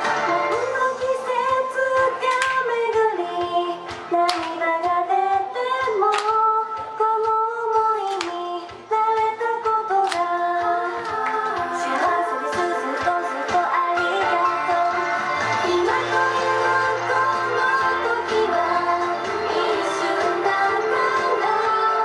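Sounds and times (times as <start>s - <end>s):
backing music: 0.0s - 22.0s
women singing pop song in unison: 0.0s - 22.0s.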